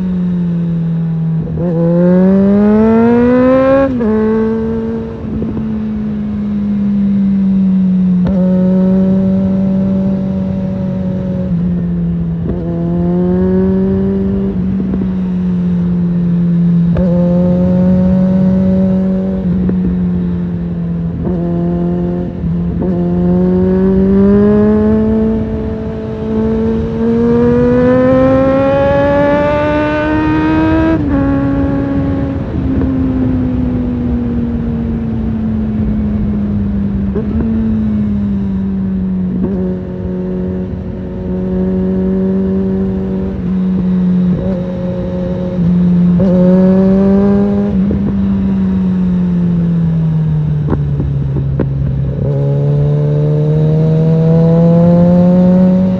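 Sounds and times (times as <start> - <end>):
motorcycle engine while riding: 0.0 - 55.9.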